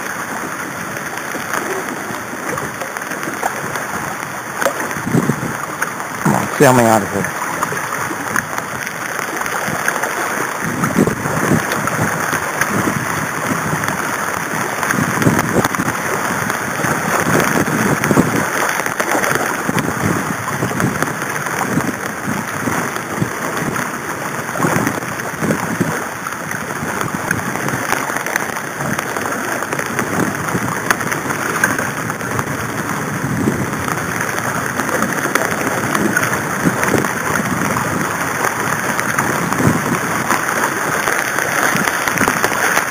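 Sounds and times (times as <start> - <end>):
low rumbles: 0.0 - 42.9
steady rain falling: 0.0 - 42.9.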